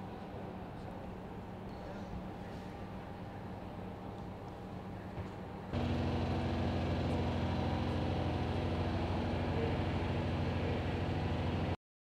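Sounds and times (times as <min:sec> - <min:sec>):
low mechanical hum: 0:00.0 - 0:11.8.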